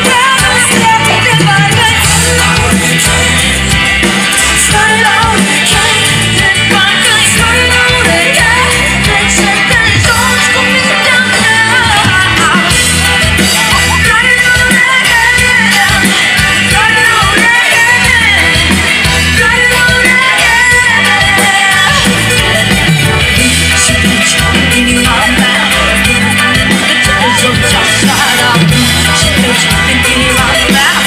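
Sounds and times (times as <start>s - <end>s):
live band over pa: 0.0s - 31.0s
person singing: 0.0s - 31.0s.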